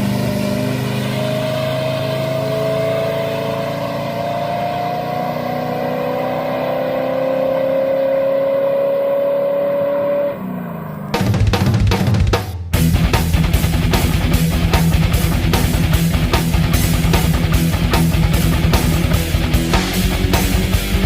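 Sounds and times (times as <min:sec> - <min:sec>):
car engine at high revs: 0:00.0 - 0:11.7, 0:12.8 - 0:21.0.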